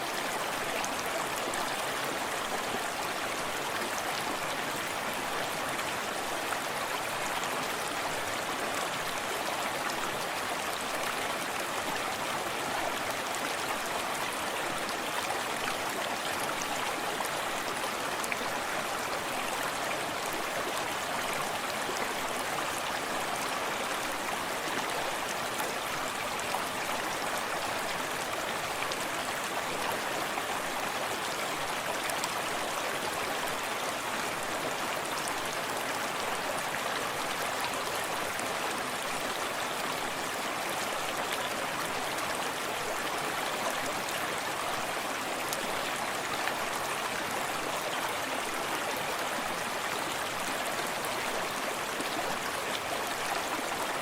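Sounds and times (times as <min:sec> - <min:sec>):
distant small waterfall: 0:00.0 - 0:54.0
stream babbling over stones: 0:00.0 - 0:54.0.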